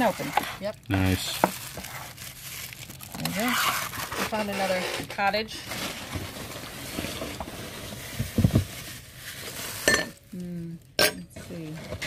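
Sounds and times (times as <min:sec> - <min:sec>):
packing material rustling: 0:00.0 - 0:10.4.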